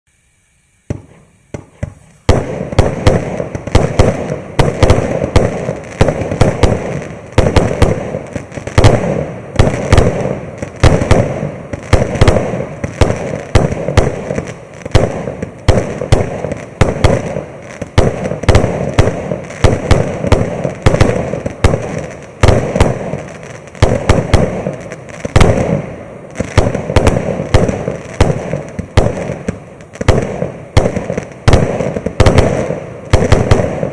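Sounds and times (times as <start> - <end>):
firework cake barrage: 0.1 - 33.9
loud firework cracks: 0.8 - 33.9
faint firework pops: 0.9 - 33.9.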